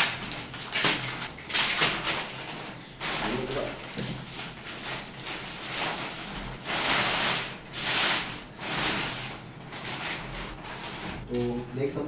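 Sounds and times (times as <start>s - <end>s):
plastic wrap rustling and crinkling: 0.0s - 12.0s.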